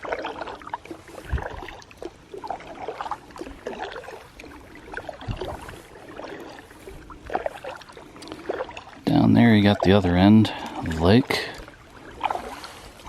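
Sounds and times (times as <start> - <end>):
kayak paddle splashing: 0.0 - 13.0
water dripping: 0.0 - 13.0.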